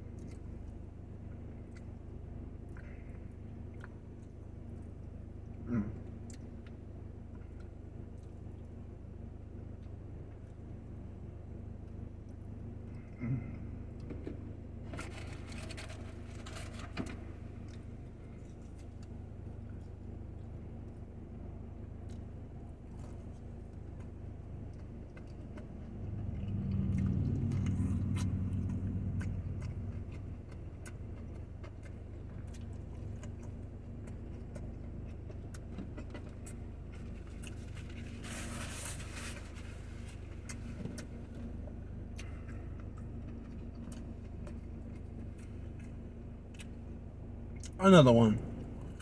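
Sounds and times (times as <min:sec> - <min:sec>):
vehicle engine hum: 0:00.0 - 0:49.0.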